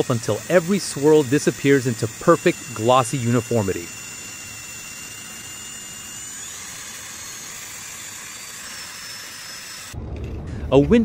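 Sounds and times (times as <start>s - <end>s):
electric drill mixing oil: 0.0s - 10.0s.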